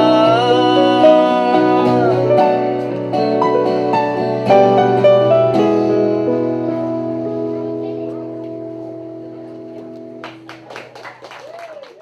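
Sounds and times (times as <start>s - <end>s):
live keyboard chords: 0.0s - 10.7s.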